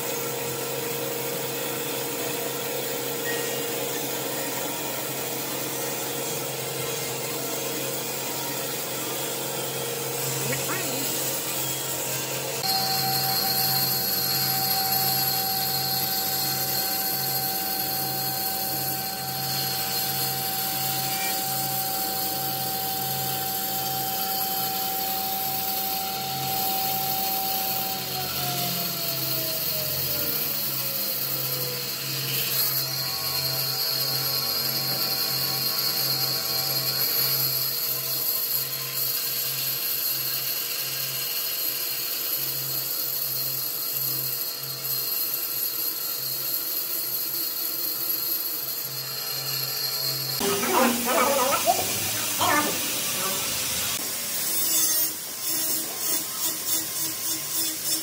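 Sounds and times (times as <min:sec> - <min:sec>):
woodworking power tool running: 0:00.0 - 0:58.0.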